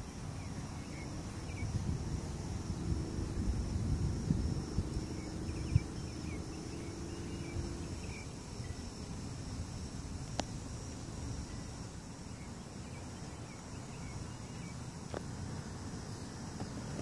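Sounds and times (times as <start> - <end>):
low outdoor rumble: 0.0 - 14.4
insects chirping: 0.0 - 17.0.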